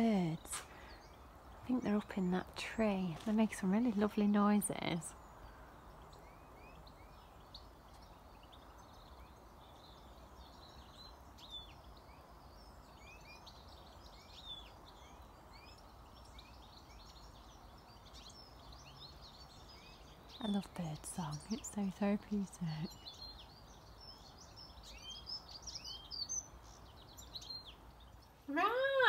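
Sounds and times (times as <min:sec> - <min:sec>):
low outdoor background noise: 0:00.0 - 0:29.0
small birds chirping: 0:00.0 - 0:29.0.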